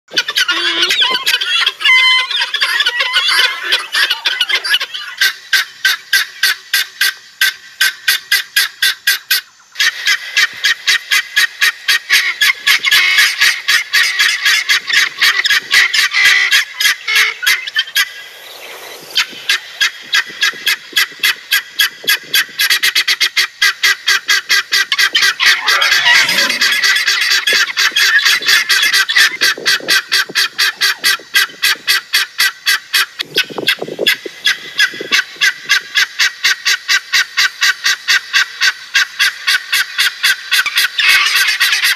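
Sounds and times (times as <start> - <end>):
guineafowl rattling calls: 0.1 - 41.9.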